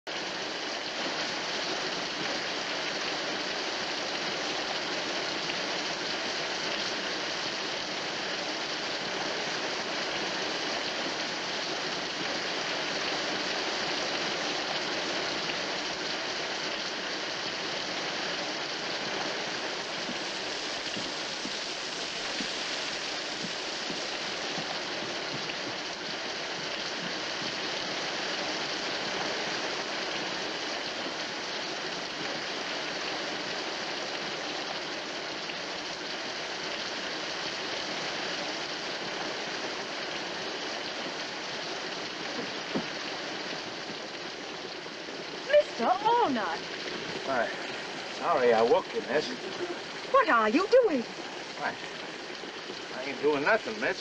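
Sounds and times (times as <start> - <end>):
rain on canvas cover: 0.1 - 54.0.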